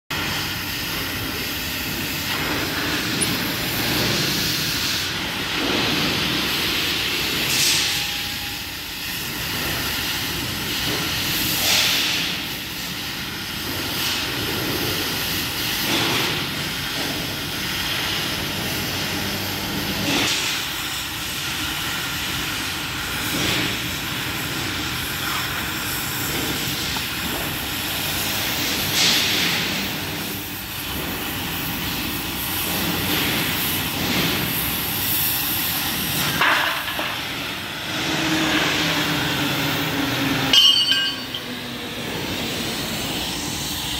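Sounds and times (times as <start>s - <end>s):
cutting torch hissing: 0.1s - 43.9s.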